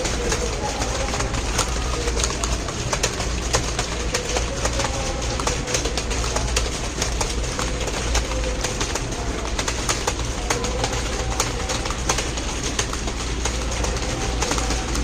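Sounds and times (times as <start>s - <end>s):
computer keyboard typing: 0.0s - 15.0s.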